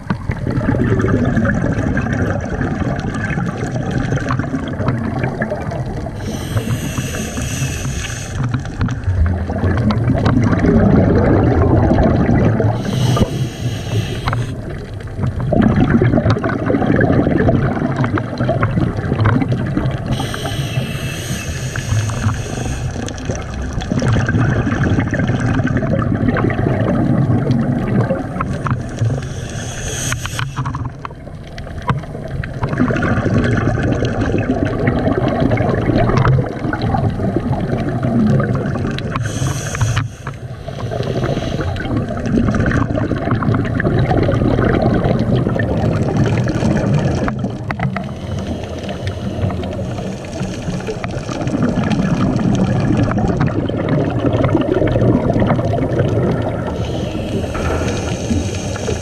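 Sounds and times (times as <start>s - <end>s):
underwater regulator bubbles gurgling: 0.0s - 59.0s.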